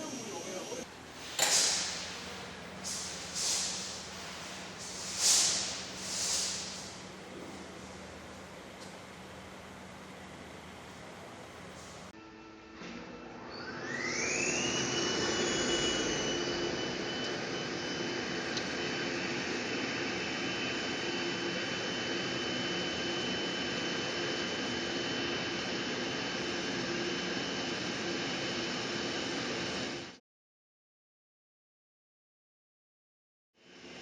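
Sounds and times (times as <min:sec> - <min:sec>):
machine whine spinning up: 0:00.0 - 0:30.2.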